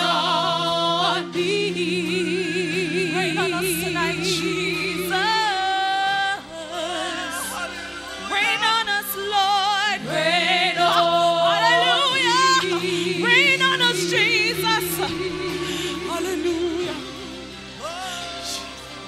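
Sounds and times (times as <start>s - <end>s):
vocal group singing in harmony: 0.0s - 19.0s.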